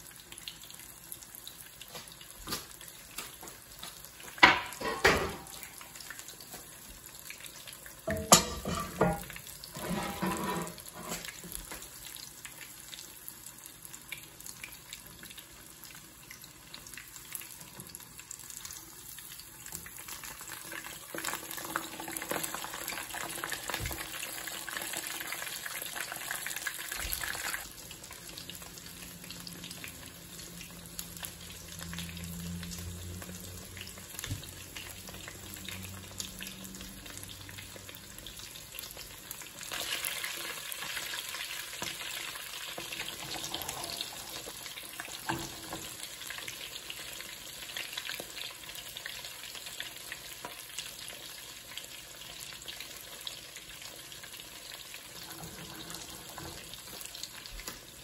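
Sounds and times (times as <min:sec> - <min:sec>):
cutlet sizzling in hot oil: 0:00.0 - 0:58.0.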